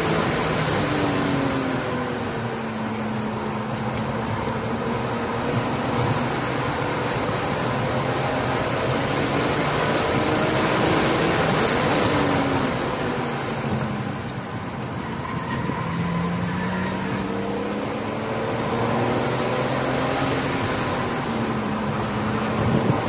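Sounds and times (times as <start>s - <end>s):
car engine revving: 0.0s - 23.0s
wind and road noise: 0.0s - 23.0s.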